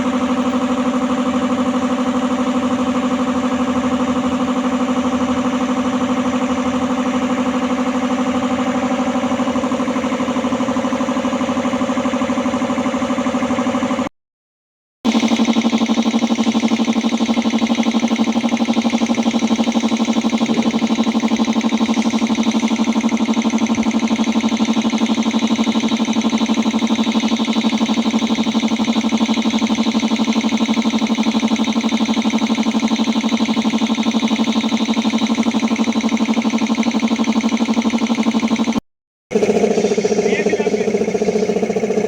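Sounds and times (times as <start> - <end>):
air compressor running: 0.0 - 14.1, 15.1 - 42.0.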